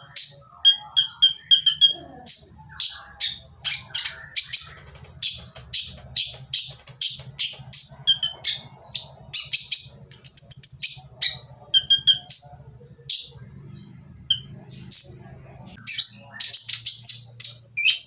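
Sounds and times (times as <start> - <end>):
bird chirping harshly: 0.0 - 18.0.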